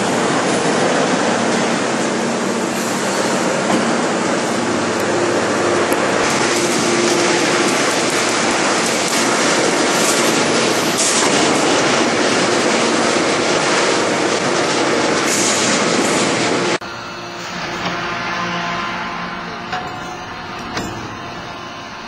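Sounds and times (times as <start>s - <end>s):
hydraulic press industrial noise: 0.0s - 22.0s.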